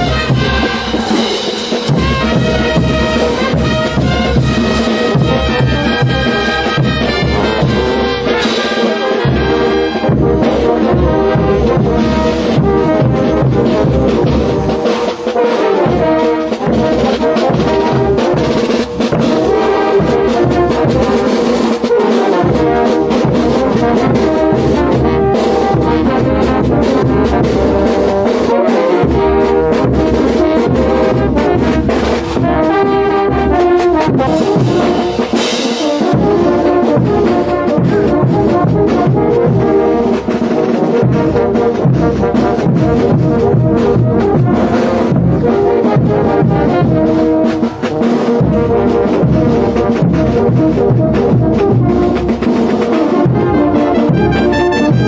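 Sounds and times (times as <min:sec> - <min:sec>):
brass band playing dance music: 0:00.0 - 0:55.0.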